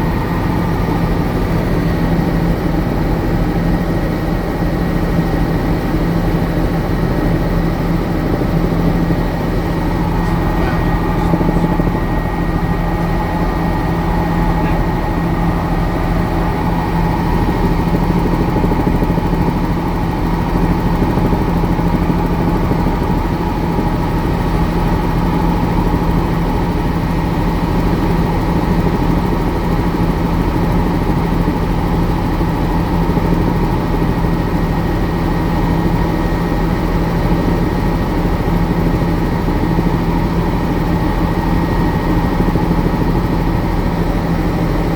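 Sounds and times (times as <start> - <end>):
helicopter engine and rotor: 0.0 - 44.9.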